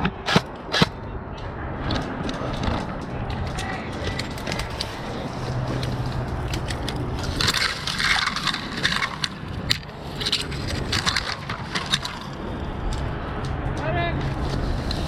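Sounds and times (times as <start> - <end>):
dry brush crunching and snapping: 1.9 - 15.0.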